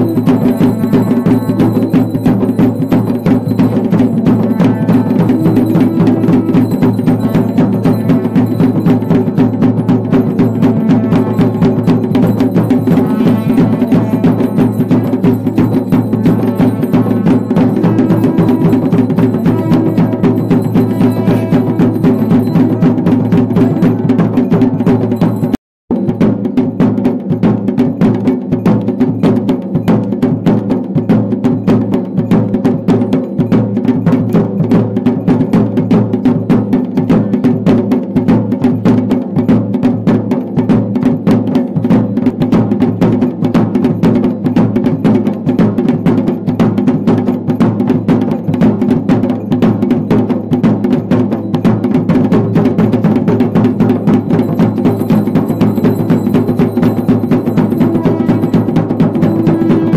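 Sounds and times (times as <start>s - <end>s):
folk drums beating fast rhythm: 0.0s - 59.9s.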